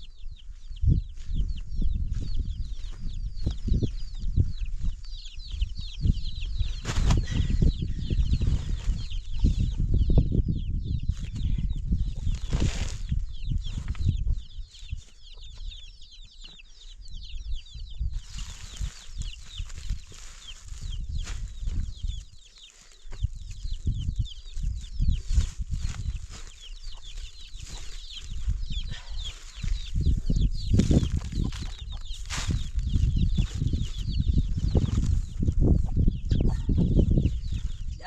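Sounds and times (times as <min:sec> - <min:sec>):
high chirps and peeps: 0:00.0 - 0:38.0
chickens clucking: 0:00.8 - 0:17.0, 0:18.0 - 0:38.0.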